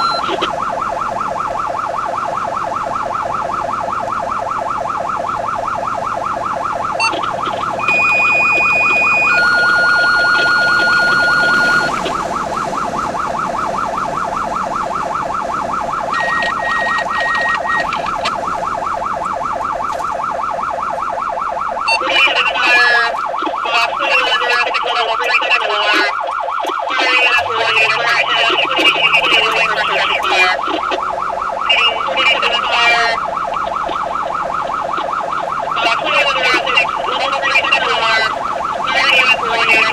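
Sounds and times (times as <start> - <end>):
siren warbling: 0.0 - 39.9
steady siren tone: 0.0 - 39.9.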